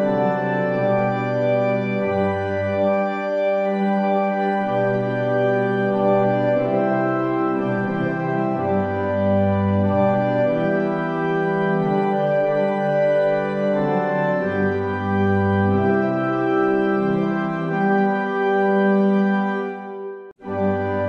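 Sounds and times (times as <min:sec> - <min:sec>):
slow organ chords: 0:00.0 - 0:21.0.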